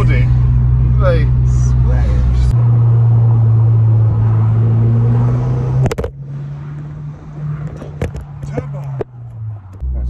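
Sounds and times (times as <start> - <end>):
car engine cruising: 0.0 - 10.0
road noise: 0.0 - 10.0.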